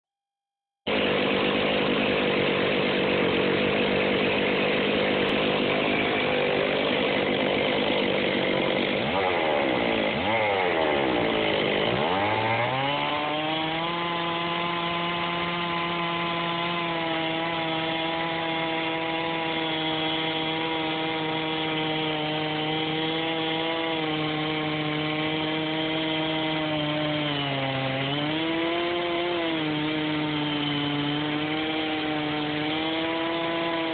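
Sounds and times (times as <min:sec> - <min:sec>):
chainsaw cutting wood: 0:00.9 - 0:33.9.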